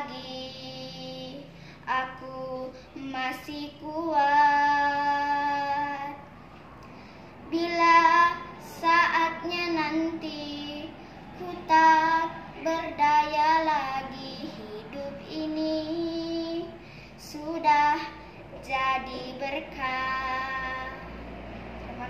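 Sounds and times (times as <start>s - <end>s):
girl singing: 0.0s - 6.4s, 7.5s - 21.2s.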